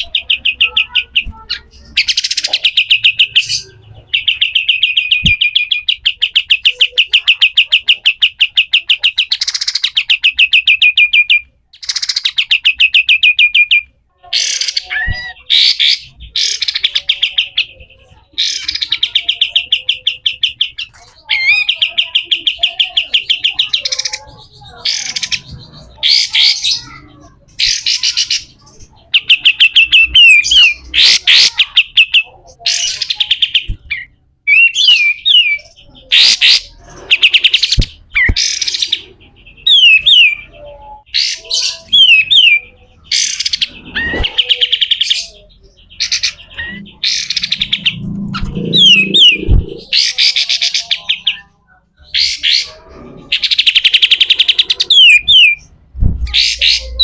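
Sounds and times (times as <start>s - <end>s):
bulbul calling: 0.0s - 57.0s.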